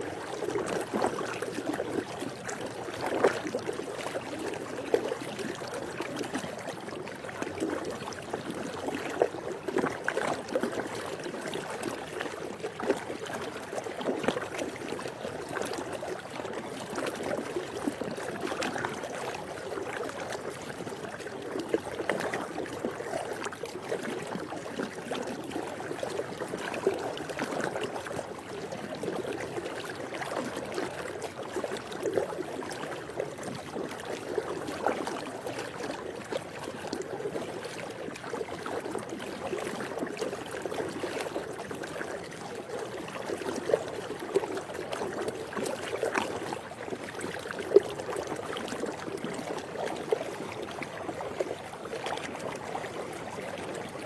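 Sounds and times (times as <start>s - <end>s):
pool water lapping and splashing: 0.0s - 54.0s.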